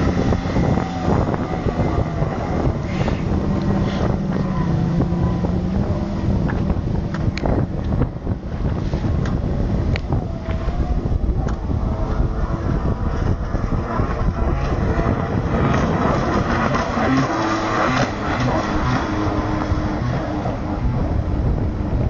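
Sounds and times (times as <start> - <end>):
jet ski engine running: 0.0 - 22.0.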